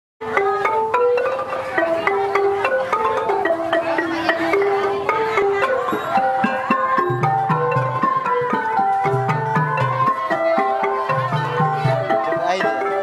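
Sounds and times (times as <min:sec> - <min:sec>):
xylophone ensemble music: 0:00.2 - 0:13.0.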